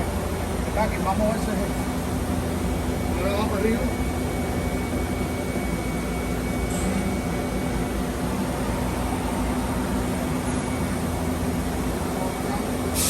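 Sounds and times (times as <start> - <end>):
machine hum: 0.0 - 12.8.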